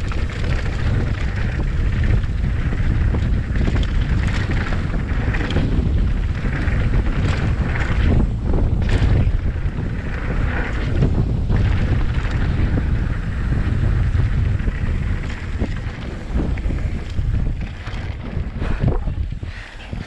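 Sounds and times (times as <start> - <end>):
bike knocks and rattles: 0.0 - 20.0
bike tyre rumble: 0.0 - 20.0
wind rushing over microphone: 0.0 - 20.0.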